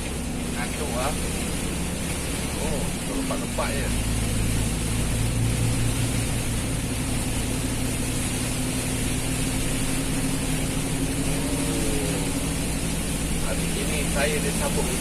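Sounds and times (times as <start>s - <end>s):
heavy rain hiss: 0.0s - 15.0s
road noise: 0.0s - 15.0s
vehicle engine humming: 0.0s - 15.0s.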